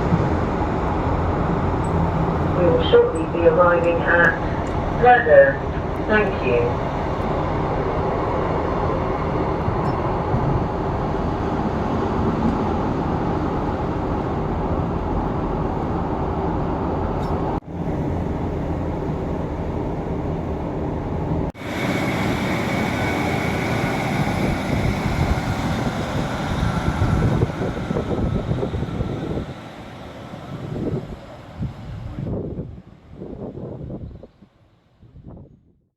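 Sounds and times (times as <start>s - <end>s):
train rumble on board: 0.0s - 34.4s.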